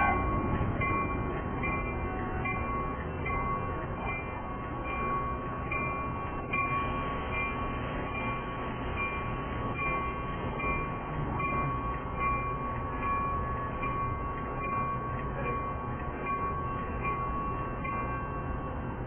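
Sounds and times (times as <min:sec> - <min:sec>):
crossing warning bell ringing: 0:00.0 - 0:19.0
train rumbling: 0:00.0 - 0:19.0.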